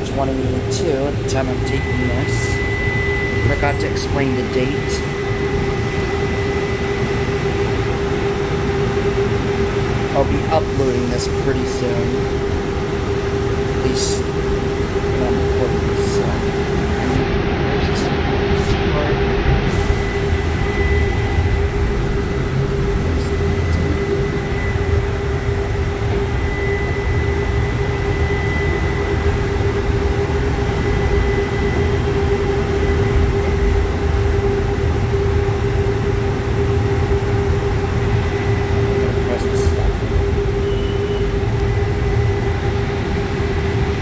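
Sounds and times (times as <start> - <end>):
constant hum: 0.0 - 44.0
tram rumbling on track: 0.0 - 44.0.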